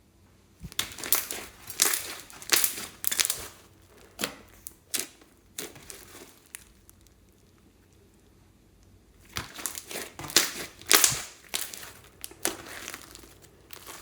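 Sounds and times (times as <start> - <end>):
slime squishing by hand: 0.6 - 8.0, 9.2 - 14.0.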